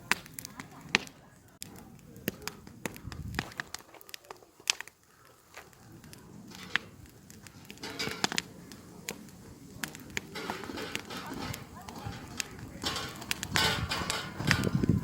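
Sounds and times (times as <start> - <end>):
campfire crackling and popping: 0.0 - 15.0
soft fire hiss: 0.0 - 15.0.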